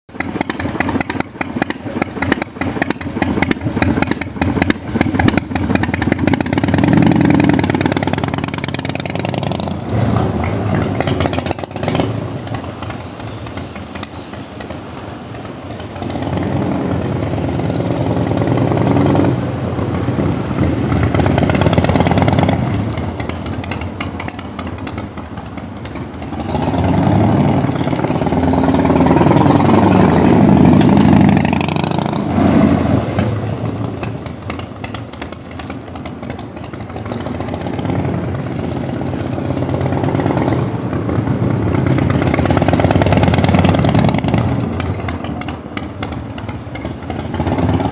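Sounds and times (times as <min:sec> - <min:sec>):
motorcycle engine revving: 0:00.1 - 0:47.9.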